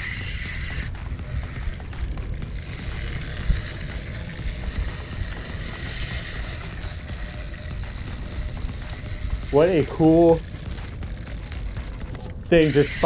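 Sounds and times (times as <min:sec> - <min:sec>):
wind rumbling on microphone: 0:00.0 - 0:12.7.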